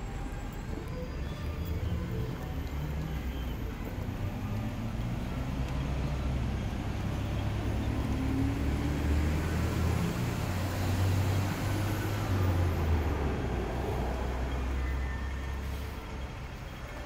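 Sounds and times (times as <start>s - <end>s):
engine rising in pitch: 0.0s - 16.4s
road traffic rumble: 0.0s - 17.0s.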